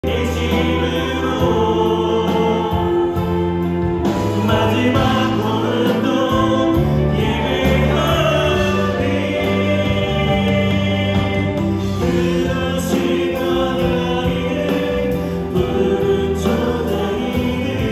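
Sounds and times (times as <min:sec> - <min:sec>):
bass guitar: 0:00.0 - 0:17.9
choir singing: 0:00.0 - 0:17.9
drums: 0:00.0 - 0:17.9
keyboard: 0:00.0 - 0:17.9.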